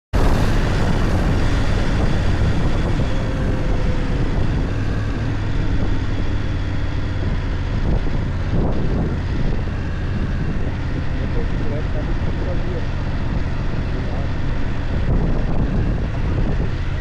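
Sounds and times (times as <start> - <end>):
motorcycle engine rumbling: 0.1 - 17.0.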